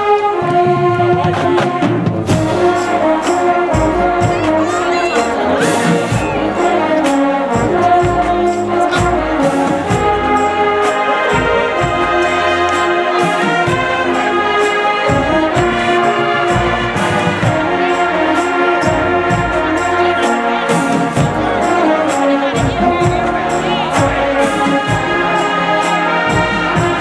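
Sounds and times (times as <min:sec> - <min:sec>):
drums beating: 0:00.0 - 0:27.0
marching band brass playing: 0:00.0 - 0:27.0.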